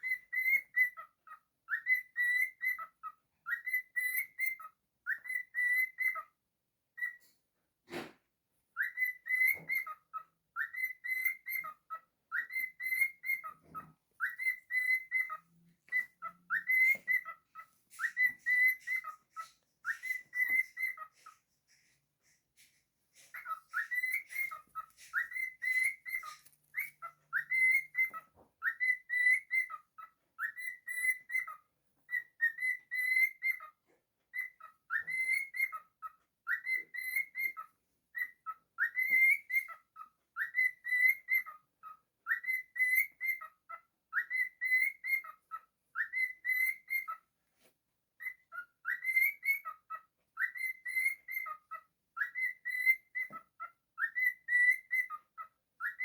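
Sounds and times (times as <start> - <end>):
cockatiel whistling: 0.0 - 6.3, 7.0 - 7.3, 8.8 - 21.4, 23.1 - 47.2, 48.2 - 56.0.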